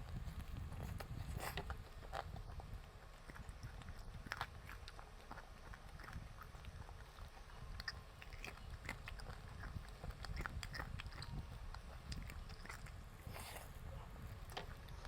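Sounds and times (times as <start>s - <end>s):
person chewing: 0.4s - 15.0s.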